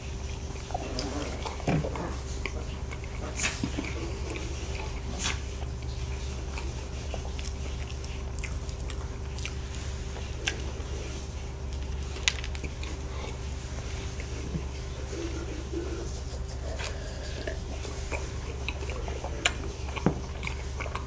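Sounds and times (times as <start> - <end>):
chewing and biting bread: 0.0 - 21.0
steady low hum: 0.0 - 21.0
crisp crackles of crumbly topping: 0.2 - 21.0.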